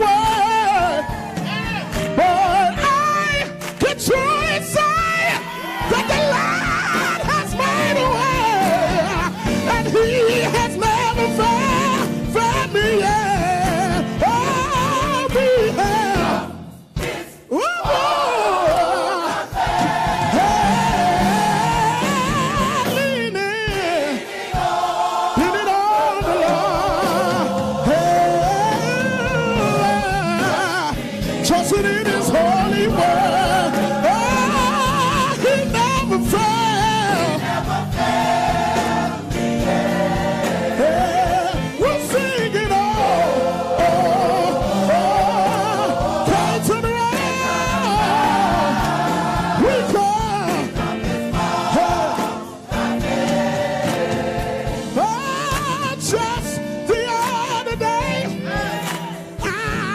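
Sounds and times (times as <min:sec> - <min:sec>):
male soloist singing: 0:00.0 - 0:01.1, 0:02.0 - 0:16.4, 0:20.3 - 0:24.3, 0:25.3 - 0:37.6, 0:39.6 - 0:48.9, 0:49.5 - 0:52.4, 0:53.4 - 0:59.9
gospel choir singing: 0:00.0 - 0:59.9.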